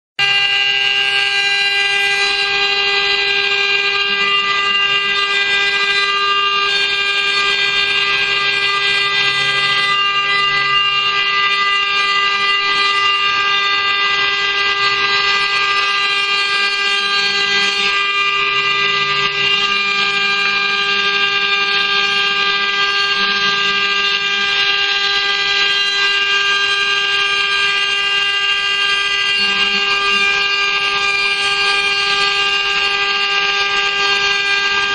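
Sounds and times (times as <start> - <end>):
cutting noise: 0.2 - 34.9
router spindle high-pitched whine: 0.2 - 34.9.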